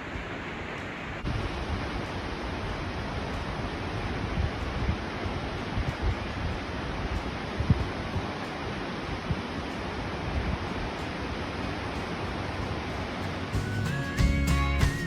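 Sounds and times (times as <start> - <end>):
rushing water roaring: 0.0 - 13.6
wind buffeting microphone: 0.0 - 13.6.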